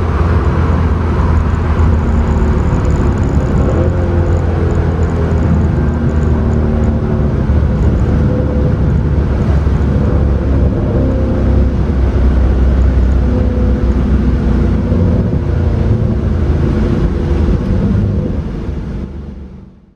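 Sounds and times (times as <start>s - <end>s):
car engine running steadily: 0.0s - 19.9s
road and wind noise rumble: 0.0s - 19.9s.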